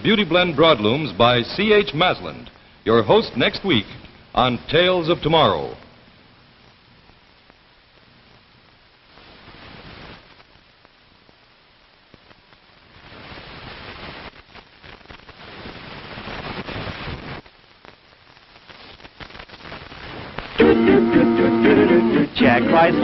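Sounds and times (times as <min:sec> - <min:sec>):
old film soundtrack hiss and crackle: 0:00.0 - 0:23.0.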